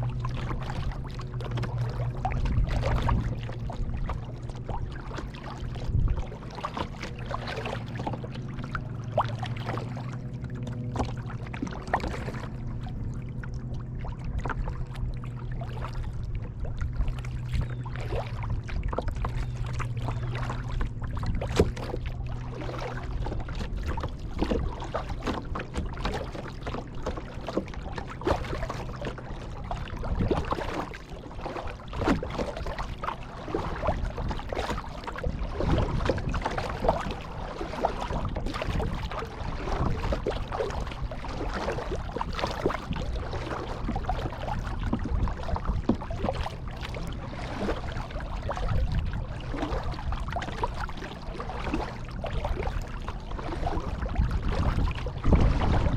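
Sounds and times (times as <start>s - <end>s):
kayak paddle splashing: 0.0s - 55.9s.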